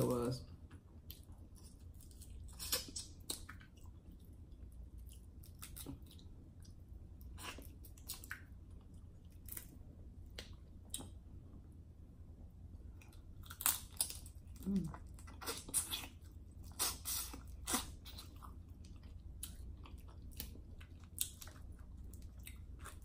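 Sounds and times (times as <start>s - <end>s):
chewing and lip smacking: 0.6s - 11.2s, 13.0s - 23.0s.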